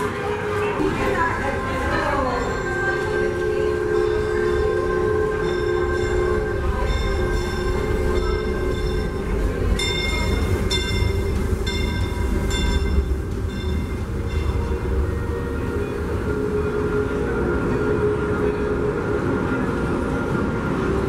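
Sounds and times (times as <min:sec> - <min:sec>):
steam train rumbling: 0:00.0 - 0:21.0.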